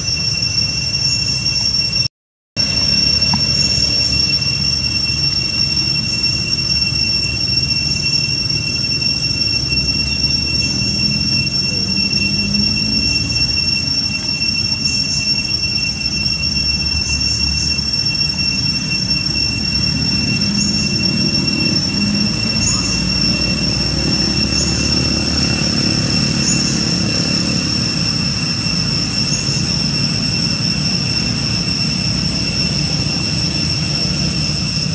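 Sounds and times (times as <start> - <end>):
high-pitched whine: 0.0 - 34.9.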